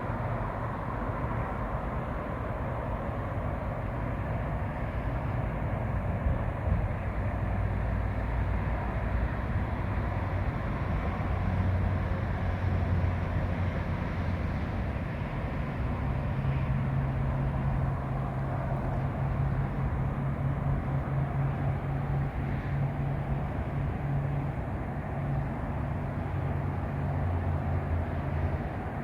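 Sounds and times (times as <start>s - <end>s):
engine hum: 0.0s - 29.0s
traffic rumble: 0.0s - 29.0s.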